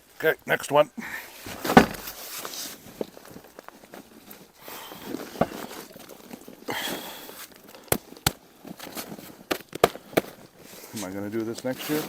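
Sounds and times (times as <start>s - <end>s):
rustling and scraping of grow bag: 1.3s - 12.0s.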